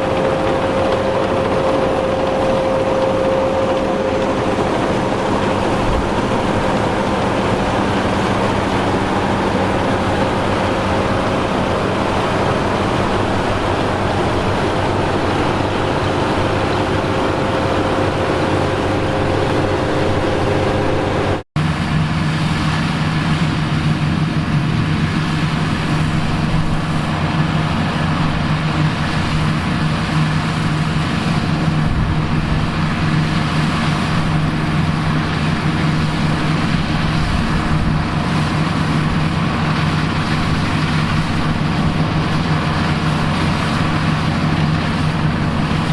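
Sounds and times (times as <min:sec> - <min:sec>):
engine low hum: 0:00.0 - 0:45.9
farm machinery engines running: 0:00.0 - 0:45.9.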